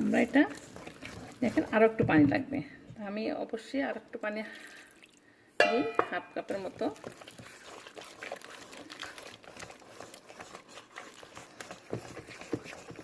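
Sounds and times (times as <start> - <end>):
batter being stirred in bowl: 0.0 - 4.7, 5.7 - 13.0.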